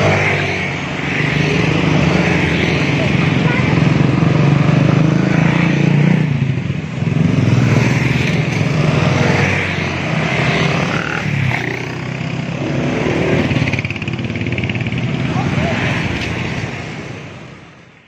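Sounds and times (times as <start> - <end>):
motorcycles riding past: 0.0 - 17.9
cars passing: 0.0 - 18.0.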